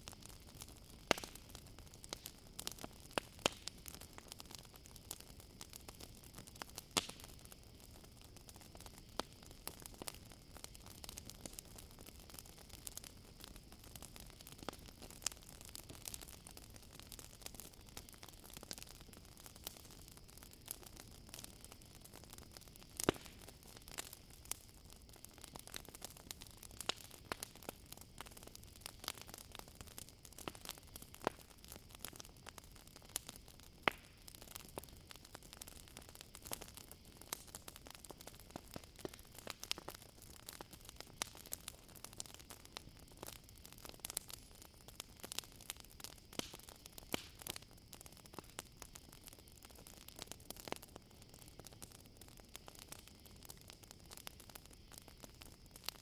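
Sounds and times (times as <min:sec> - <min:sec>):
campfire crackling: 0:00.0 - 0:56.0
crickets chirring: 0:01.2 - 0:56.0.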